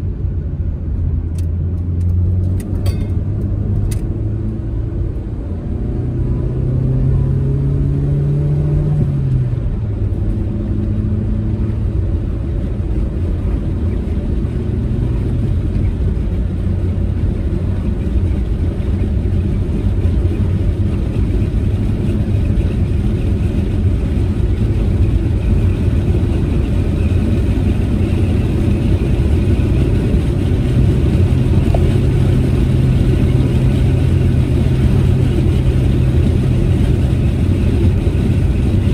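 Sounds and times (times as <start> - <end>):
car engine running: 0.0 - 38.9
road and tyre rumble: 0.0 - 38.9.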